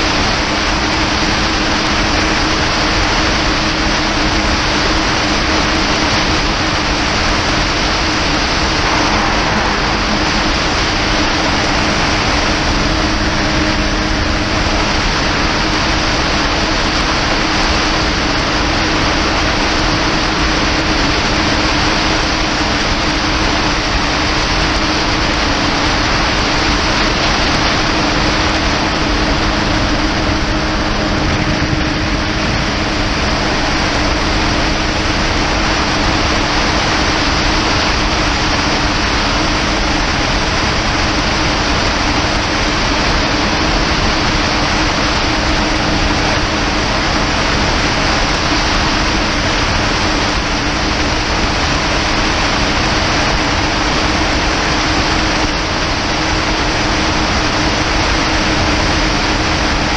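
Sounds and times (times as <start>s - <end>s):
jet ski engine humming: 0.0s - 59.9s
rush of wind and water: 0.0s - 59.9s.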